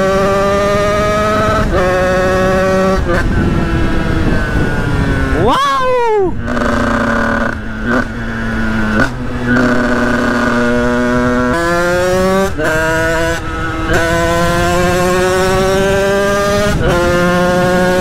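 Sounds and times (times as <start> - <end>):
motorcycle engine revving: 0.0 - 5.5, 6.3 - 18.0.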